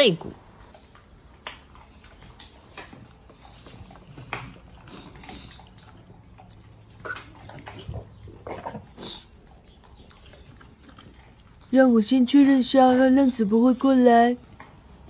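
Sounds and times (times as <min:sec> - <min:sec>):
dogs chewing and licking: 0:00.0 - 0:15.0.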